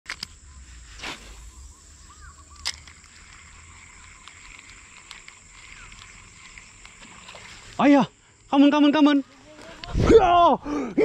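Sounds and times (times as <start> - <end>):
faint chirping calls: 0.1 - 9.8
high insect drone: 0.1 - 11.0.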